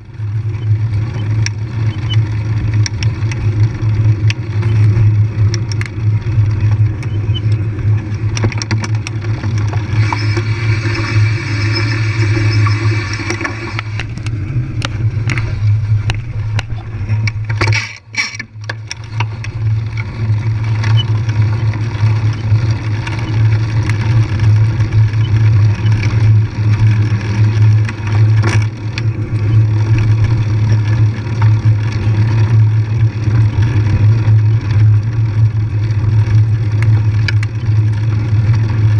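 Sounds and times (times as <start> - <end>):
bicycle low hum: 0.0 - 38.9
bicycle rattles and clicks: 0.0 - 38.9.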